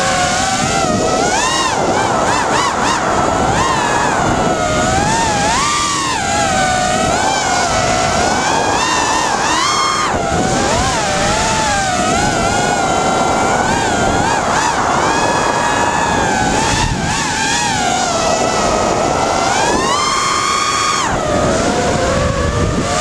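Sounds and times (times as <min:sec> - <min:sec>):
drone motors buzzing whine: 0:00.0 - 0:23.0
wind noise: 0:00.0 - 0:23.0.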